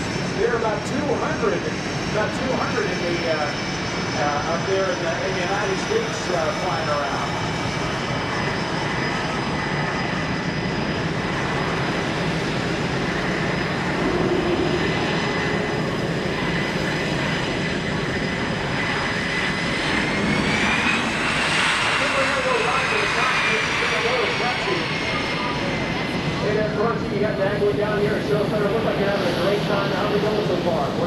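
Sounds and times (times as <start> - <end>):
jet turbine whine: 0.0 - 31.0.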